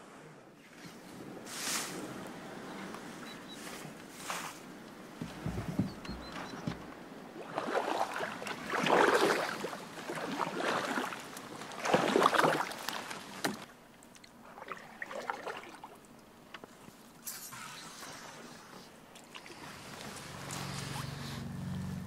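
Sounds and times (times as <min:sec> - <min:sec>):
paddle splashing in water: 0:00.6 - 0:21.5.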